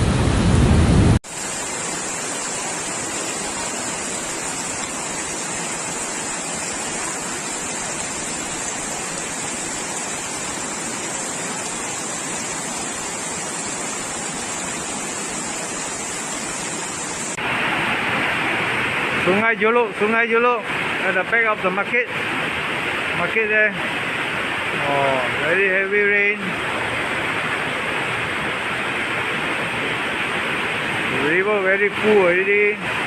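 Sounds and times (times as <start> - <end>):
rushing water hiss: 1.2 - 33.0.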